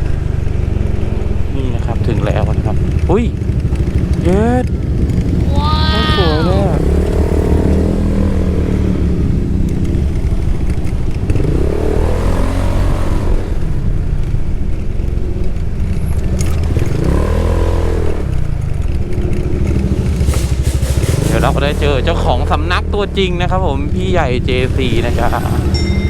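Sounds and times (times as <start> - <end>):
motorcycle engine revving: 0.1 - 5.5, 6.6 - 26.0.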